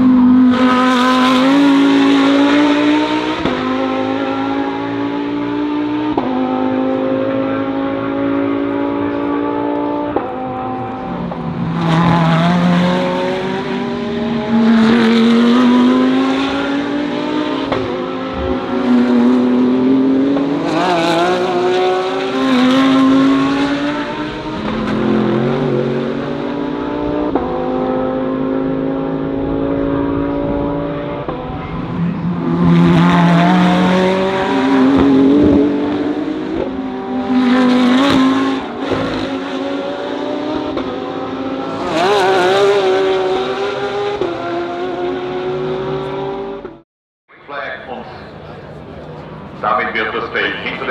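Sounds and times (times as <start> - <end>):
race cars passing at speed: 0.0 - 46.8, 47.4 - 50.9.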